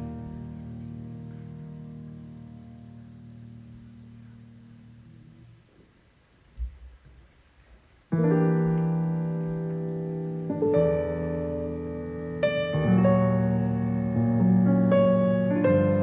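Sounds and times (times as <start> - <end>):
slow piano chords: 0.0 - 7.2, 8.0 - 16.0.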